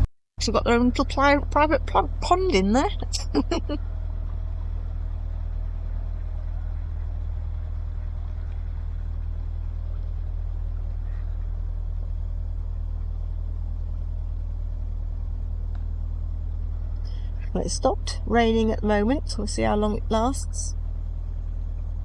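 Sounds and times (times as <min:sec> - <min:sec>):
boat diesel engine throbbing: 0:00.0 - 0:22.0.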